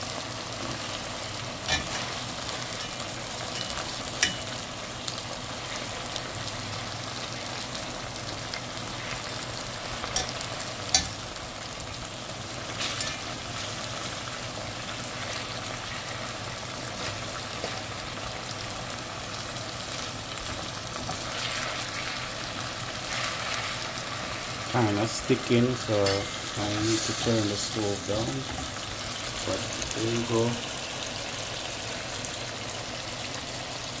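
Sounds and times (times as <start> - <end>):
chicken sizzling in hot oil: 0.0 - 34.0.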